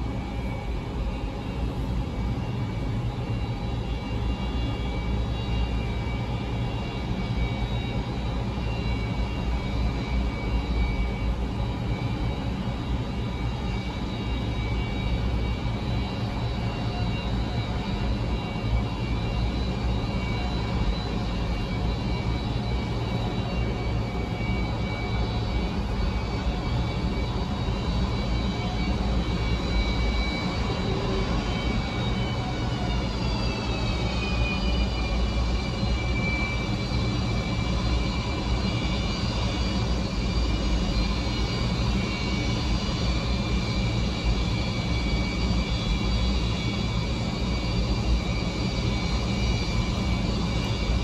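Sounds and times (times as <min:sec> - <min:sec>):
high fan whine: 0:00.0 - 0:51.0
jet engines low rumble: 0:00.0 - 0:51.0.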